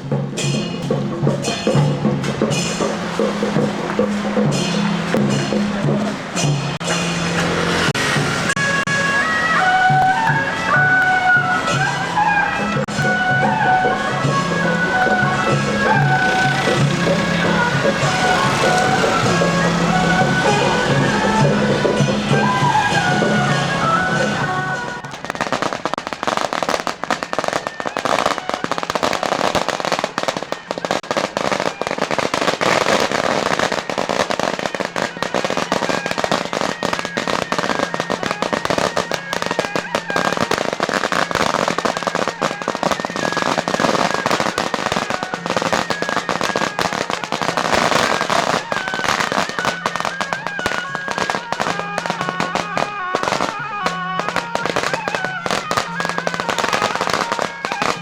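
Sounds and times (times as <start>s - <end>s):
festival music: 0.0s - 58.0s
firecrackers crackling: 0.0s - 58.0s.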